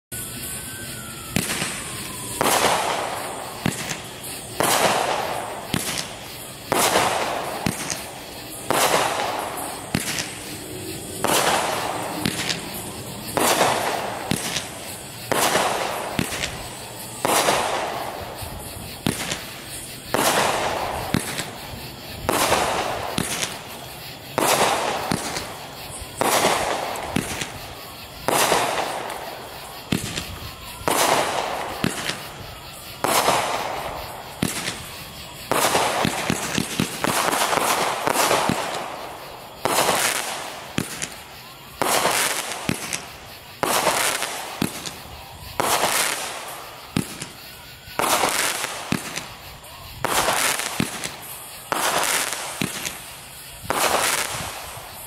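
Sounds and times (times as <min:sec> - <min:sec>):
fireworks bangs: 0:00.1 - 0:55.0
small firework pops: 0:00.2 - 0:55.0.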